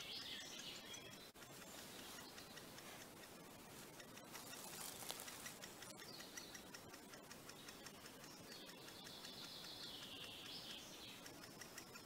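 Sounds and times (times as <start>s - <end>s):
bird chick ticking begging calls: 0.0s - 12.0s.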